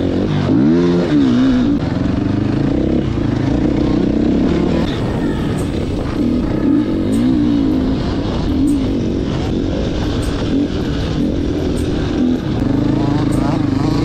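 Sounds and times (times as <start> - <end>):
dirt bike engine revving: 0.0 - 14.0
wind noise: 2.8 - 14.0.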